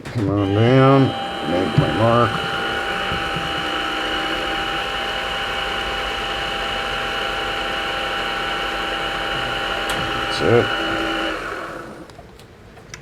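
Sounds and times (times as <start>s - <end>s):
milling machine motor whine: 0.0s - 12.2s.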